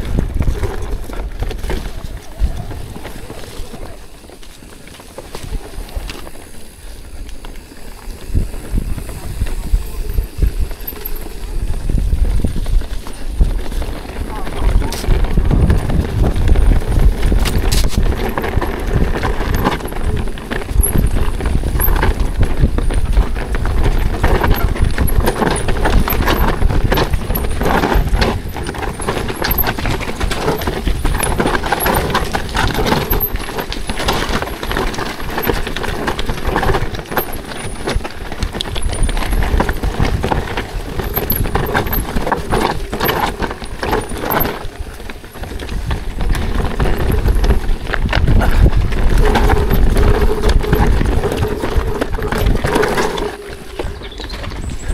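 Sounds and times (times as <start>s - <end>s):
bike clattering over rocks: 0.0s - 54.9s
wind rumbling on microphone: 0.0s - 54.9s.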